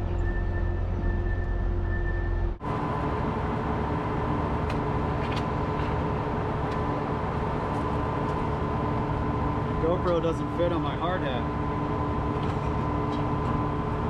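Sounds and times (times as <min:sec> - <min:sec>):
diesel truck engine droning: 0:00.0 - 0:14.0
high engine whine: 0:00.0 - 0:14.0.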